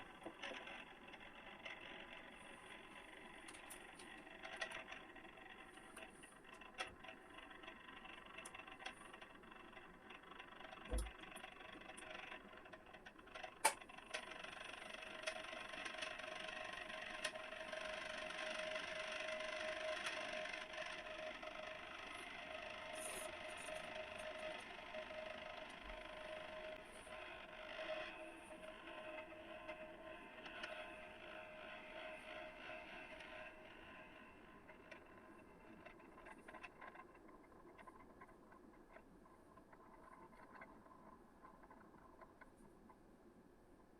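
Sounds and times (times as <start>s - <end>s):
magnetic stirrer humming: 0.0s - 43.6s.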